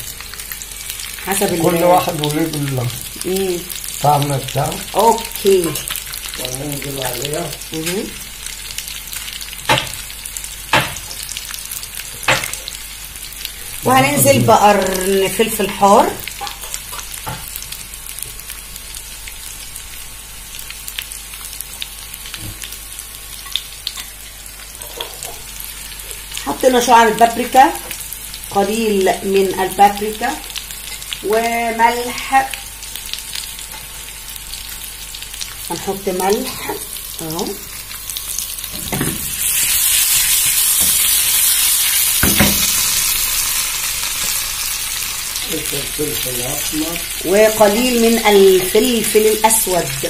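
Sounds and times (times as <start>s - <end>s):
food sizzling in frying pan: 0.0s - 50.0s.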